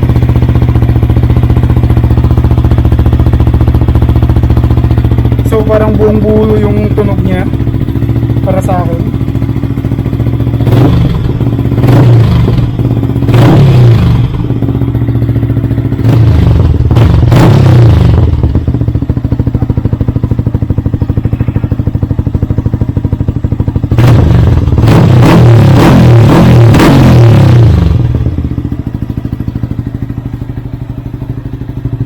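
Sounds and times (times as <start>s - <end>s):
motorcycle engine idling: 0.0s - 32.0s
motorcycle engine revving: 0.0s - 32.0s.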